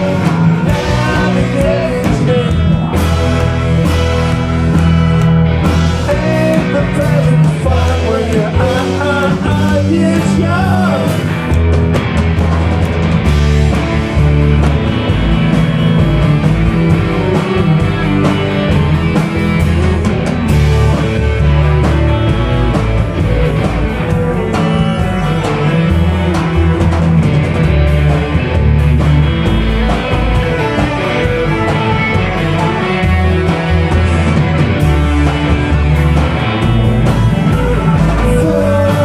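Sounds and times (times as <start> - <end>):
driving drum beat: 0.0 - 39.0
electric guitars: 0.0 - 39.0
heavy bass: 0.0 - 39.0.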